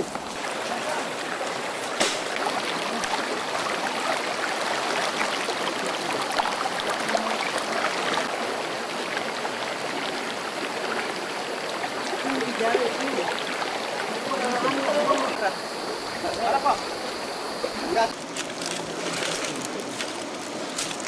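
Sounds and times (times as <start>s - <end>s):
small splashes: 0.0s - 15.4s, 18.1s - 21.0s
shallow river water rushing: 0.0s - 21.0s.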